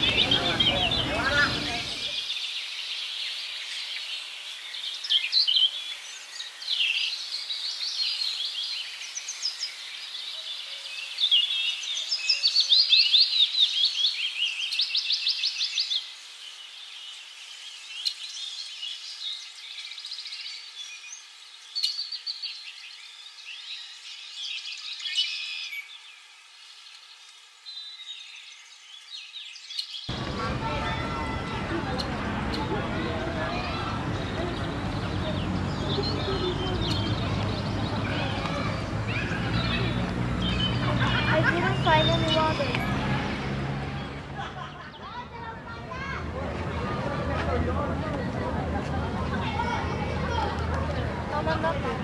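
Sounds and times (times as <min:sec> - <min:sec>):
birds chirping and singing: 0:00.0 - 0:45.8.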